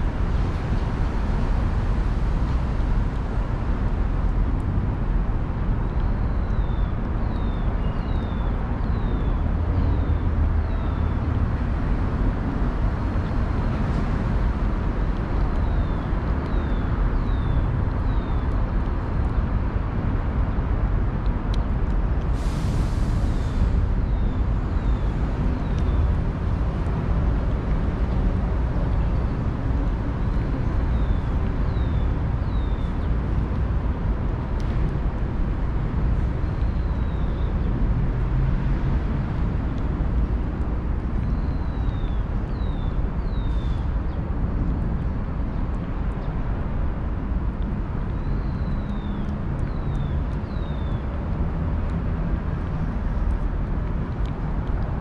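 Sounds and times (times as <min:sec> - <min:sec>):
distant traffic rumble: 0:00.0 - 0:55.0.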